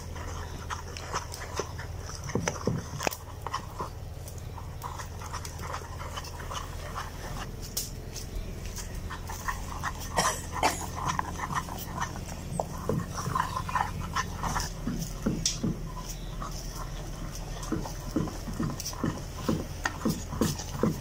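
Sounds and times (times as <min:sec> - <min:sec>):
steady low hum: 0:00.0 - 0:21.0
wooden spoon scraping a pan: 0:00.0 - 0:21.0.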